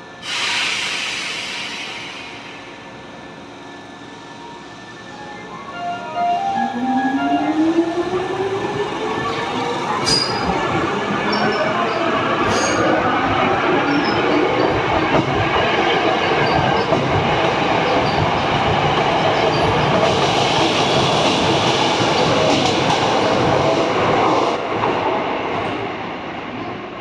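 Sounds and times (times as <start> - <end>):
train wheels on rails: 0.0 - 4.7, 7.0 - 25.9.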